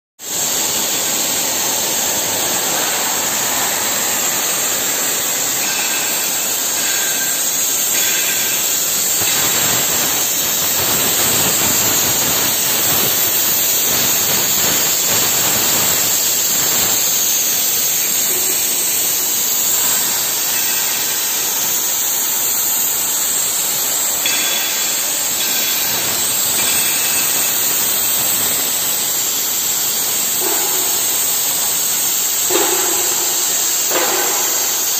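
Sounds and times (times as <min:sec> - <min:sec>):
cutting torch hissing: 0:00.2 - 0:34.9.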